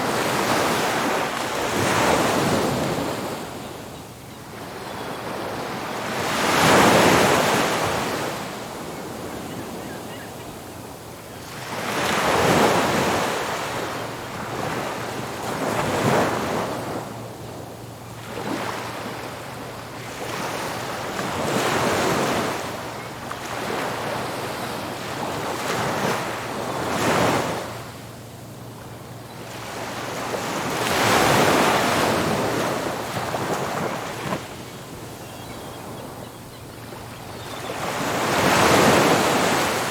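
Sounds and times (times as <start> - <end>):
waves breaking on beach: 0.0 - 3.8, 4.5 - 17.6, 18.2 - 28.0, 28.6 - 39.9.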